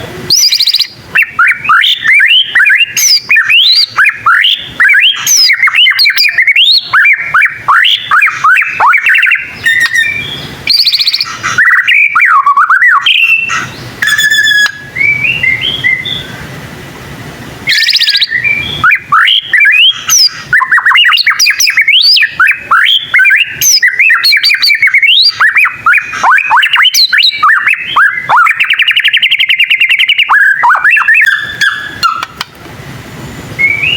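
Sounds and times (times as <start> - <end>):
bird singing whistles and clicks: 0.3 - 16.2, 17.7 - 32.6, 33.6 - 33.9.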